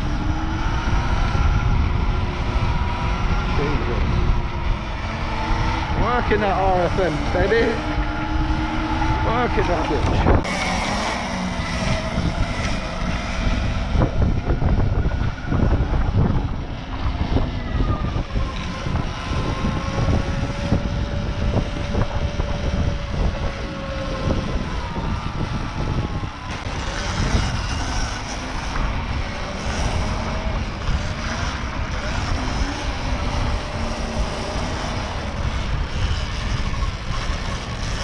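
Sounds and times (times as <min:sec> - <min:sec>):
electric motor whine: 0:00.0 - 0:38.0
wind rumble on microphone: 0:00.0 - 0:38.0.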